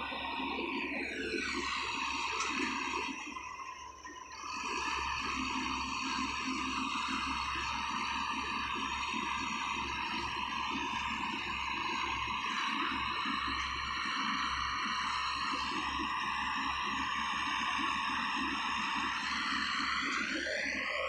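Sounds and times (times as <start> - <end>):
high held whine: 0.0 - 21.0.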